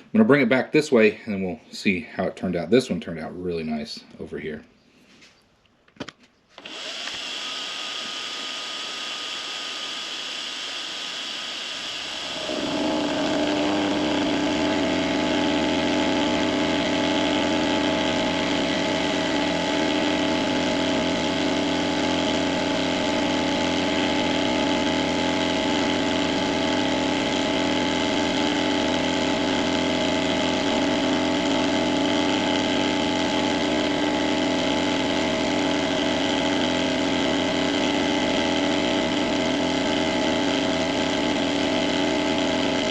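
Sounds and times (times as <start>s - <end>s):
machine tool cutting metal: 6.6s - 42.9s
motor hum: 6.6s - 42.9s.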